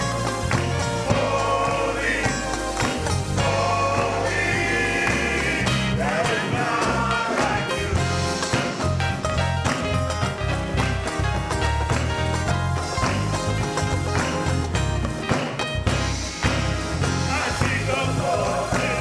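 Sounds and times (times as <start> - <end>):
gospel singing: 0.0 - 10.5, 11.9 - 19.0
sustained bass notes: 0.0 - 19.0.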